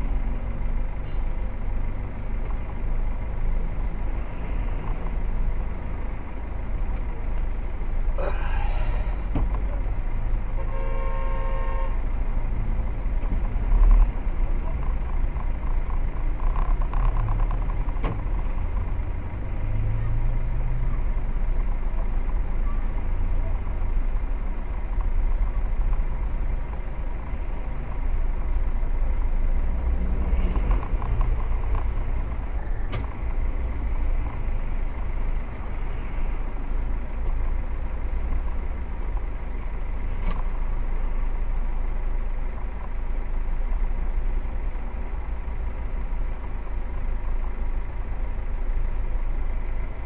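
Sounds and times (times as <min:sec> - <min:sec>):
faint ticks: 0:00.0 - 0:50.0
vehicle driving rumble: 0:00.0 - 0:50.0.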